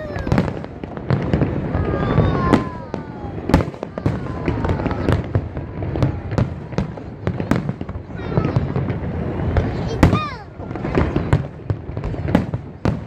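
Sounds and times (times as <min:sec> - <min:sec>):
fireworks bangs and crackles: 0:00.0 - 0:13.0
fireworks falling whistles: 0:00.0 - 0:13.0.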